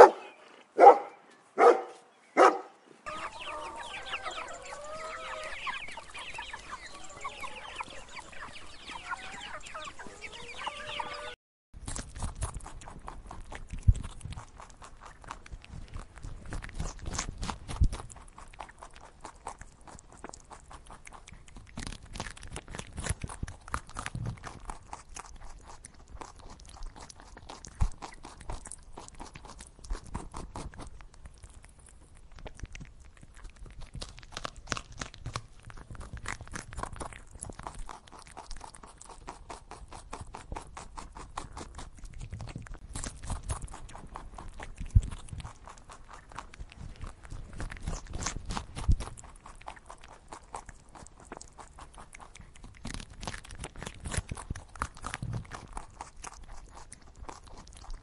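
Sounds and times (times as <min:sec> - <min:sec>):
guinea pigs chewing grass: 0:03.0 - 0:11.2, 0:11.8 - 0:58.0.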